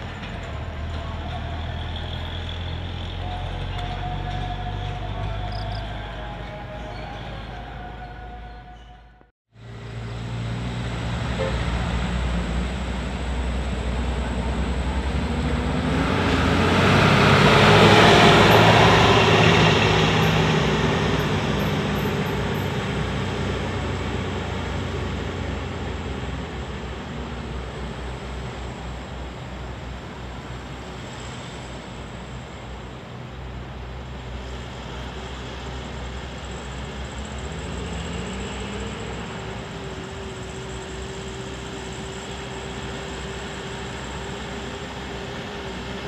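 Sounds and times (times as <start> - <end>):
truck passing by: 0.0 - 46.0.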